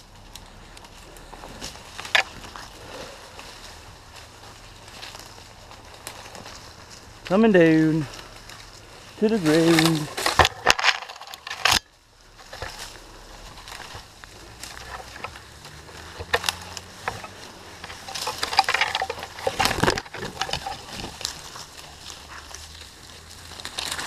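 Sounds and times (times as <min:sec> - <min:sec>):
dry leaves and twigs rustling: 0:00.0 - 0:24.0.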